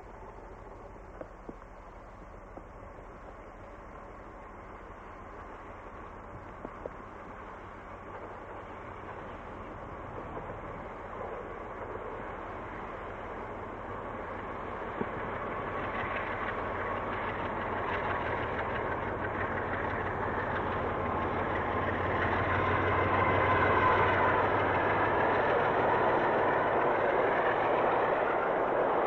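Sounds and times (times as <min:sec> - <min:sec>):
diesel locomotive engine: 0:00.0 - 0:29.0.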